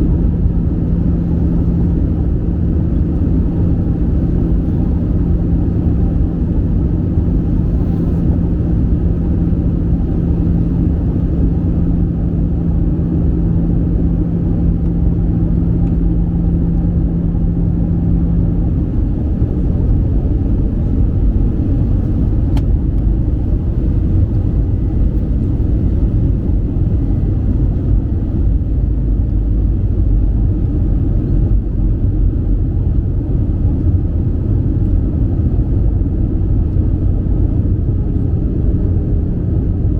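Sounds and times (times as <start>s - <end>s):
airflow and jet engines rumbling: 0.0s - 39.9s
low hum: 0.0s - 39.9s.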